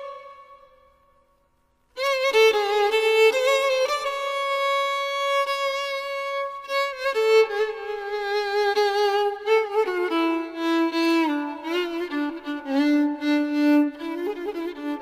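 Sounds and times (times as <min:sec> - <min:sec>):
violin playing slow melody: 0:00.0 - 0:01.2, 0:01.9 - 0:15.0.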